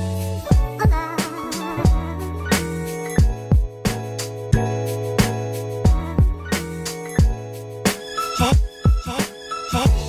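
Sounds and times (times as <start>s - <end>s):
r and b style music: 0.0s - 10.0s.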